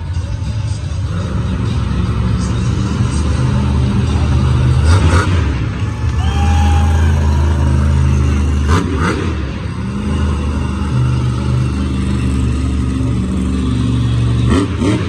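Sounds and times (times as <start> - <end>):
truck engine running loud: 0.0 - 15.0.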